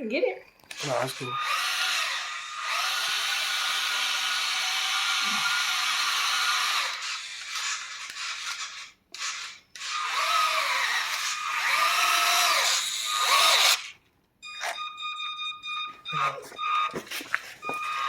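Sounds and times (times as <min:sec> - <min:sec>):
remote-control truck motor whining: 0:00.7 - 0:14.0, 0:16.2 - 0:18.0.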